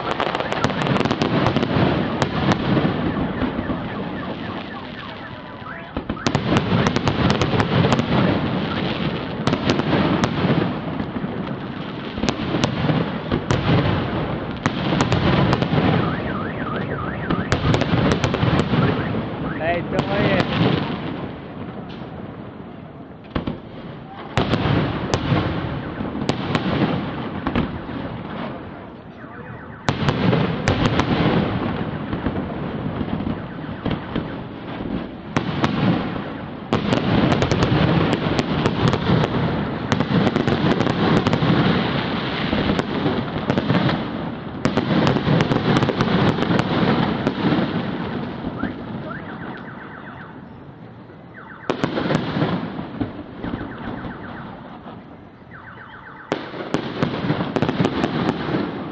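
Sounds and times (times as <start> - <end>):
fireworks crackling and booming: 0.0 - 58.9.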